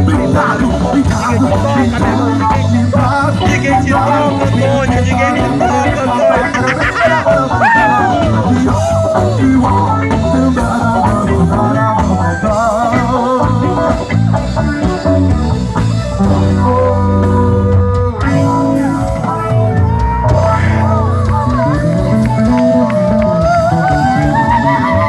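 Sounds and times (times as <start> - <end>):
bass guitar: 0.0 - 25.0
drum kit playing: 0.0 - 25.0
electric guitar: 0.0 - 25.0.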